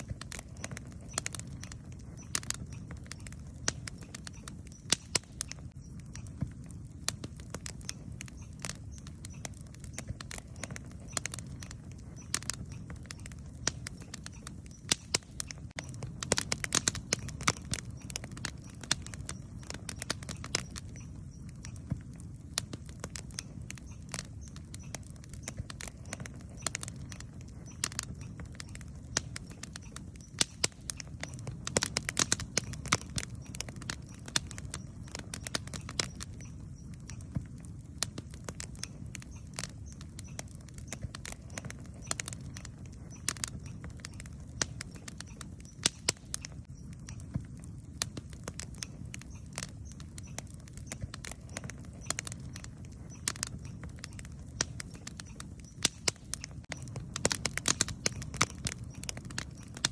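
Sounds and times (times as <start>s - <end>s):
campfire crackling and popping: 0.0s - 59.9s
low fire rumble: 0.0s - 59.9s.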